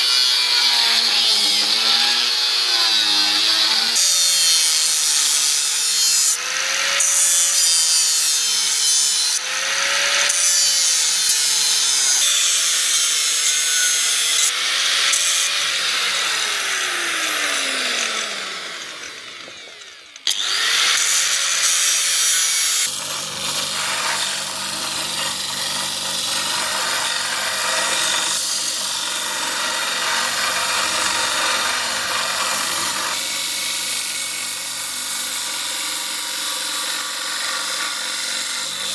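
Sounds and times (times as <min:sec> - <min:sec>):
power grinder grinding steel blade: 0:00.0 - 0:38.9.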